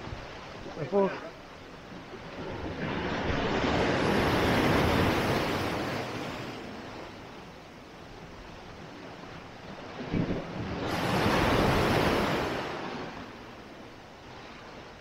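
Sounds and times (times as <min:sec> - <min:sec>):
sea surf washing onto beach: 0:00.0 - 0:15.0.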